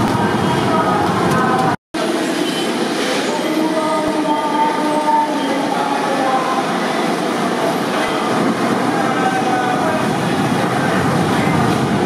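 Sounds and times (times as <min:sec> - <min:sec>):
light-rail train rumbling and whining: 0:00.0 - 0:12.0.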